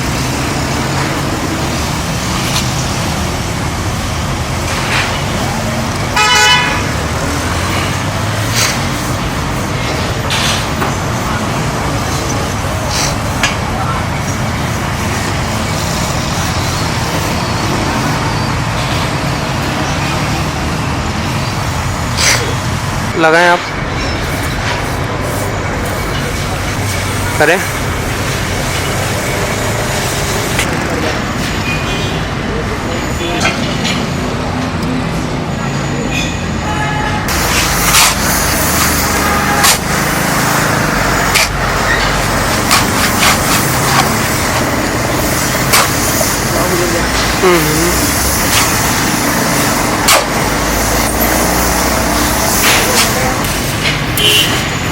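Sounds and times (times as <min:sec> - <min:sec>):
engine drone: 0:00.0 - 0:54.9.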